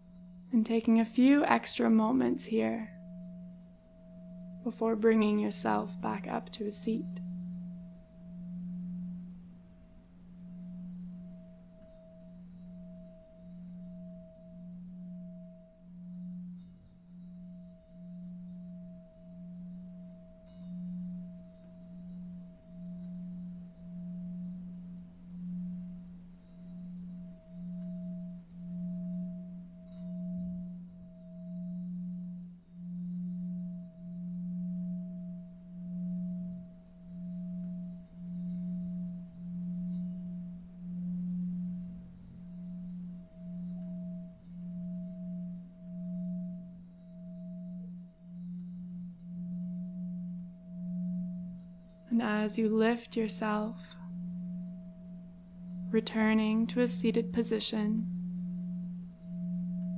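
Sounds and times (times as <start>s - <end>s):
low meditation drone: 0.0s - 59.9s.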